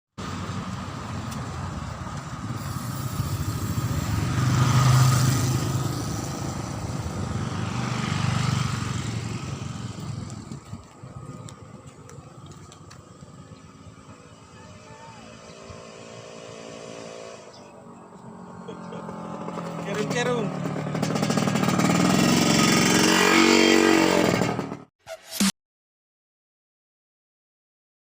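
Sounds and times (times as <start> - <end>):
motor engine running: 0.2 - 23.2.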